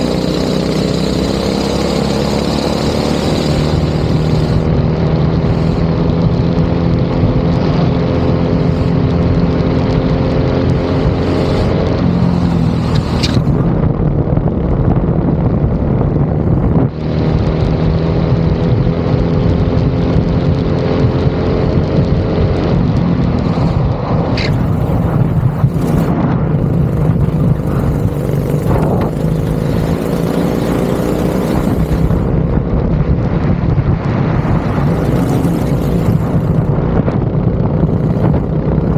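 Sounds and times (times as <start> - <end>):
go-kart engine accelerating: 0.0 - 14.0, 15.4 - 38.9.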